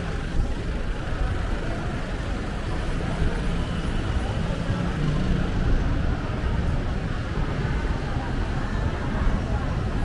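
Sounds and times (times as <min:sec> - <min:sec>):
city street noise: 0:00.0 - 0:10.0
low traffic rumble: 0:00.0 - 0:10.0.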